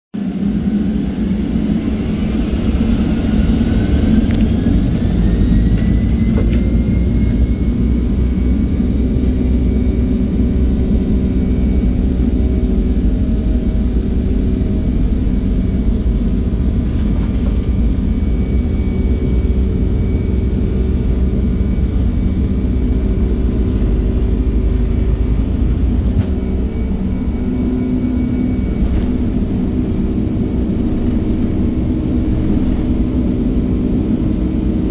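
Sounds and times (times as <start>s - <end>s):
jet engine rumble: 0.2s - 34.9s
jet engine whine: 0.2s - 34.9s.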